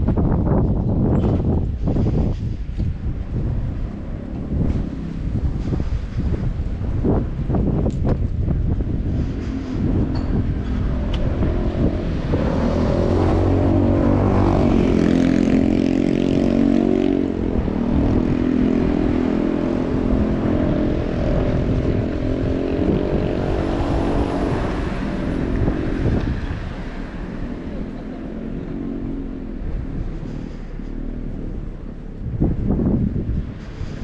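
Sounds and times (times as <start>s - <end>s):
engine drone: 0.0s - 34.0s
low rumble: 0.0s - 34.0s.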